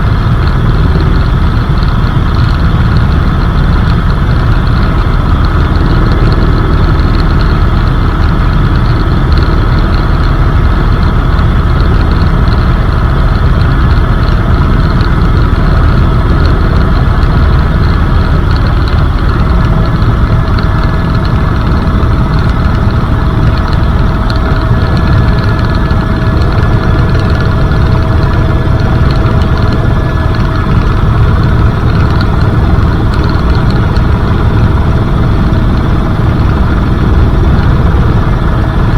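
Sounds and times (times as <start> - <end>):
helicopter rotor and engine noise: 0.0 - 38.9
steady whining tones: 0.0 - 38.9.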